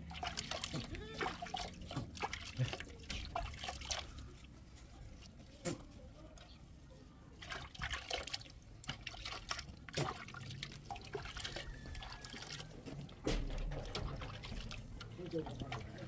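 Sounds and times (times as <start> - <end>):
water dripping and splashing: 0.0 - 6.0, 7.2 - 16.0.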